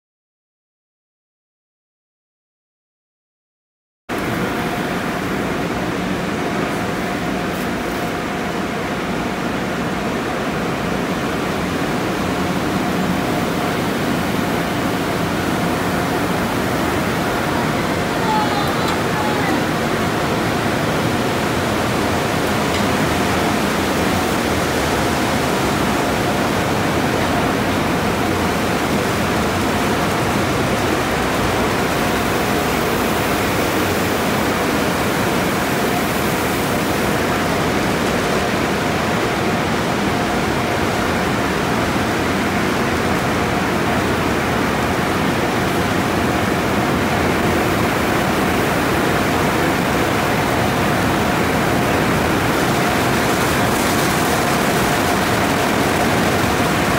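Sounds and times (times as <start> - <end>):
car wash water spraying: 4.2 - 56.9.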